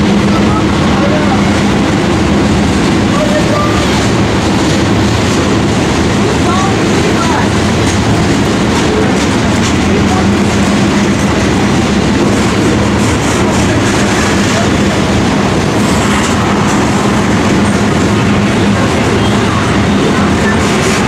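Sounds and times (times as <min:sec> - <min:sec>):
freight train wheels on track: 0:00.0 - 0:21.0.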